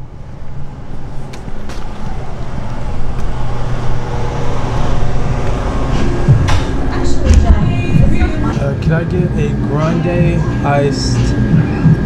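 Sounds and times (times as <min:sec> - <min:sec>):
motor drone: 0:00.0 - 0:12.0
road traffic hum: 0:00.0 - 0:12.0.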